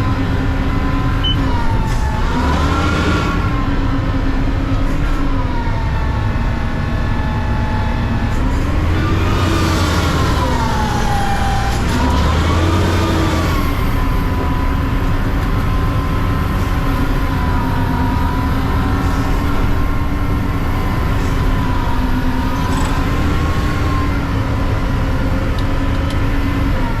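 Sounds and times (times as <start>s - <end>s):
truck engine rumble: 0.0s - 27.0s.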